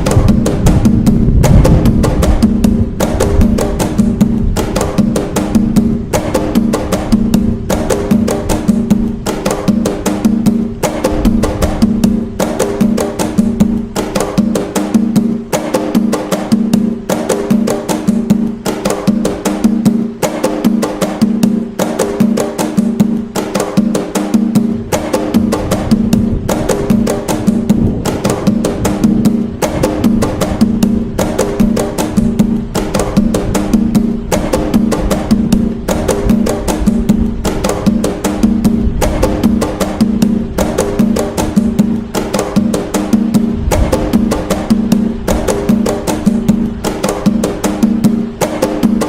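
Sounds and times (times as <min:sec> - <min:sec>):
hand drums playing: 0:00.0 - 0:49.0.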